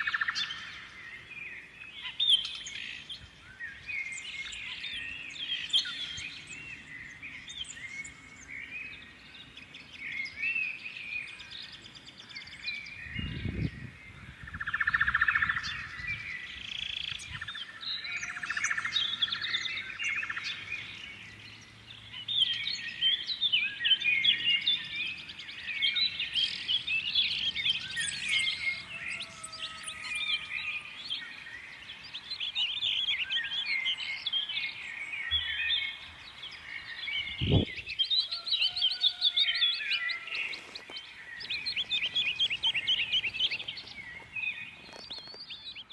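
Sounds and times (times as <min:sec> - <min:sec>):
birds chirping and singing: 0:00.0 - 0:45.9.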